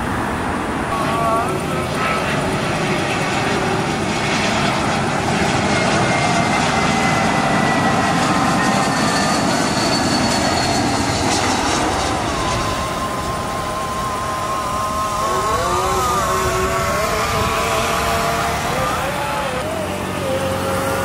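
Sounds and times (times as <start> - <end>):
jet airliner landing: 0.0 - 21.0.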